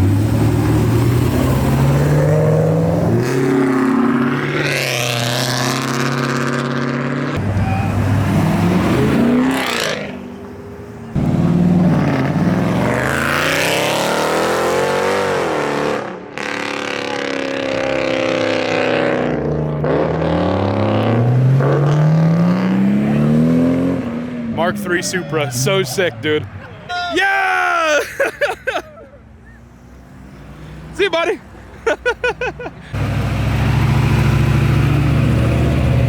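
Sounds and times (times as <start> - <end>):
cars accelerating hard: 0.0 - 26.6, 29.7 - 36.0.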